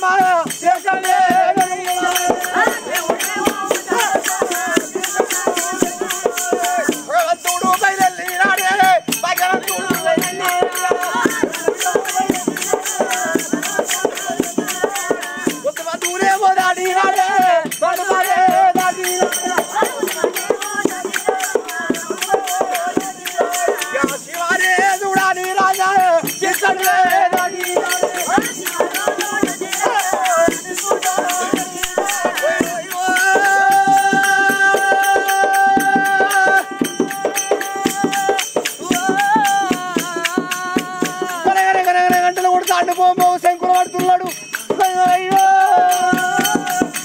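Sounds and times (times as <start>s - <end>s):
drum strokes: 0.0s - 47.0s
jingling hand percussion: 0.0s - 47.0s
men singing a folk chant: 0.0s - 47.0s.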